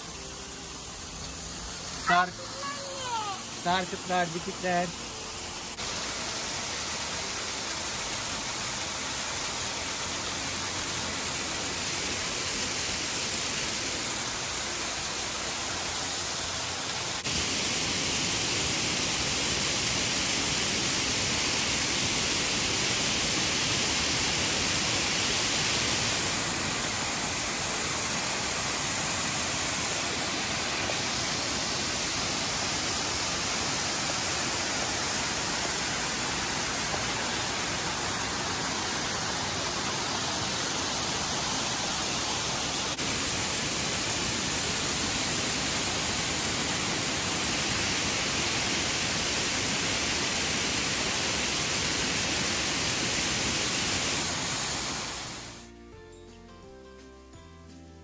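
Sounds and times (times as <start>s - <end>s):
waterfall splashing into pool: 0.0s - 55.6s.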